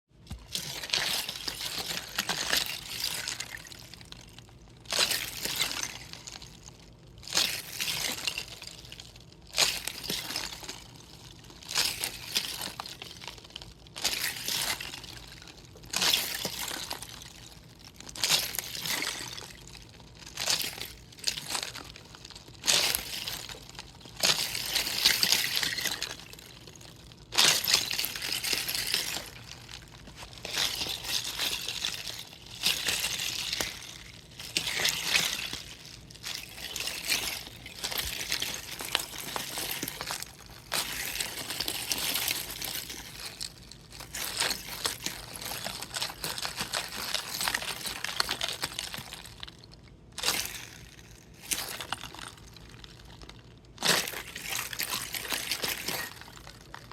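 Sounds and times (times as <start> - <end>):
plastic bottle crinkling: 0.2 - 56.9
ice chunks clinking: 0.3 - 53.2, 53.8 - 56.9.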